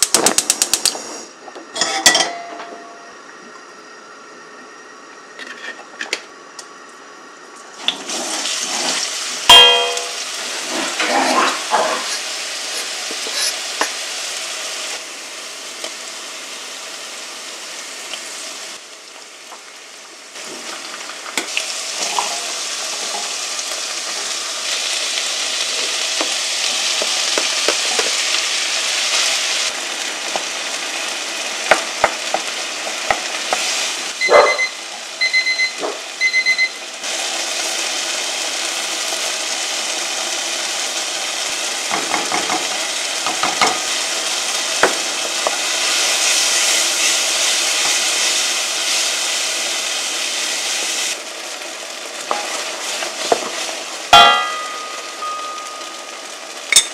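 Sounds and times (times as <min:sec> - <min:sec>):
garlic sizzling in hot oil: 0:07.7 - 0:56.9.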